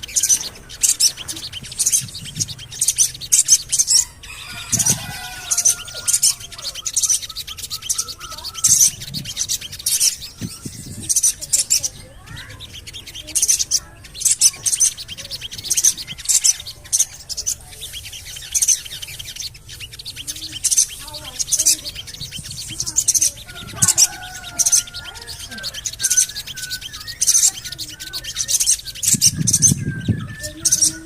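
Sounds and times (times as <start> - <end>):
faint low bird twittering: 0.0 - 31.0
sharp high bird chirps: 0.0 - 31.0.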